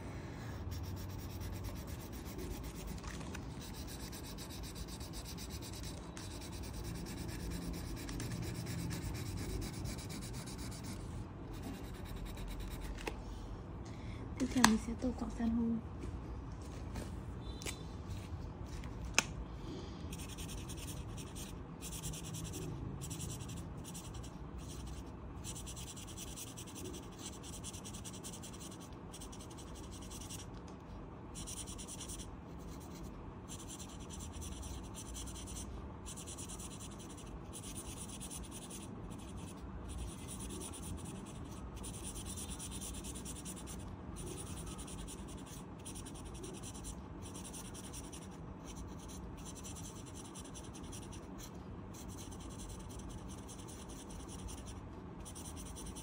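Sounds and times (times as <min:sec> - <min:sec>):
crayon scratching on paper: 0:00.6 - 0:13.1, 0:20.1 - 0:30.5, 0:31.4 - 0:56.0.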